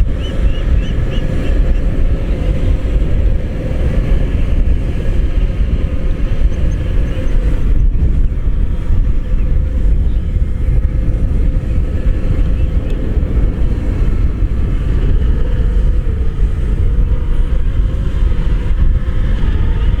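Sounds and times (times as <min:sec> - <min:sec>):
combine harvester diesel drone: 0:00.0 - 0:20.0.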